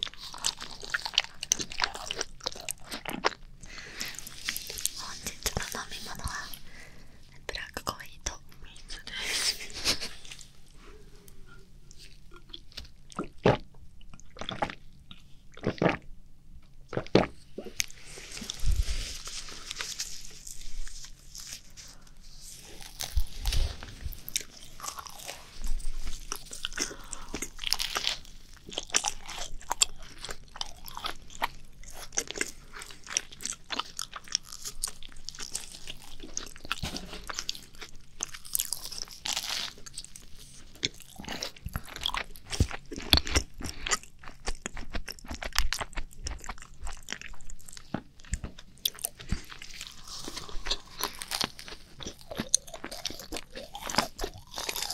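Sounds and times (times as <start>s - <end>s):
crunching and chewing: 0.0s - 8.0s, 9.9s - 54.9s.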